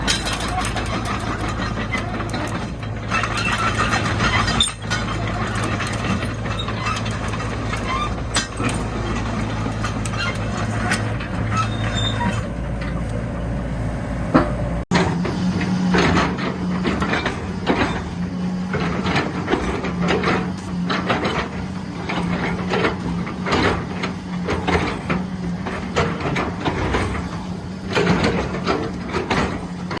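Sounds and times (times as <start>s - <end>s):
sharp metal knocks and clanks: 0.0s - 13.0s, 14.3s - 30.0s
excavator engine running: 0.0s - 30.0s.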